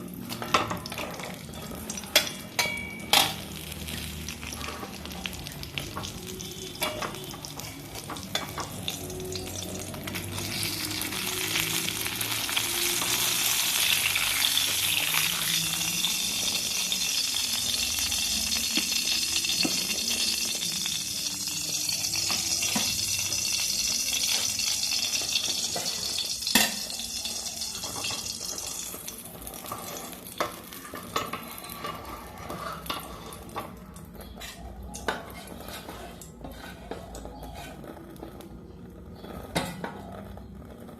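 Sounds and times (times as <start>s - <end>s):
batter frying in hot oil: 0.0s - 40.9s.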